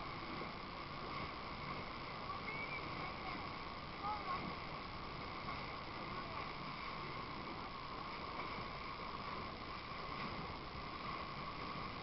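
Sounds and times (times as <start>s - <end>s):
fishing boat running: 0.0s - 12.0s.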